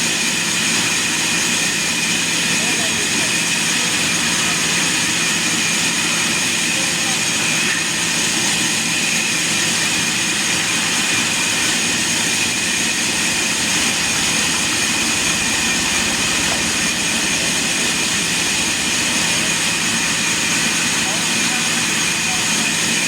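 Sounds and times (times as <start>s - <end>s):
high machine whine: 0.0s - 23.0s
sawmill machine running: 0.0s - 23.0s.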